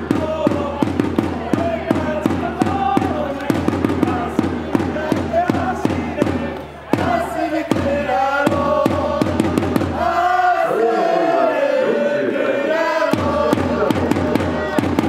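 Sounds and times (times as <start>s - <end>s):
bass drum beating: 0.0s - 10.3s, 13.0s - 15.0s
football supporters chanting: 0.0s - 15.0s.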